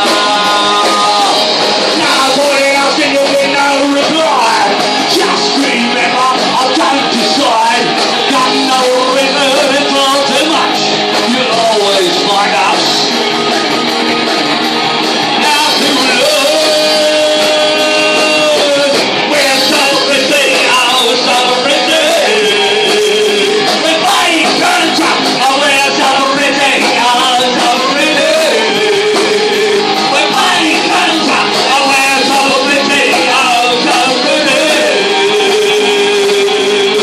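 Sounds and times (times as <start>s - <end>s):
person singing: 0.0s - 14.2s, 15.1s - 37.0s
drums: 0.0s - 37.0s
electric guitar: 0.0s - 37.0s.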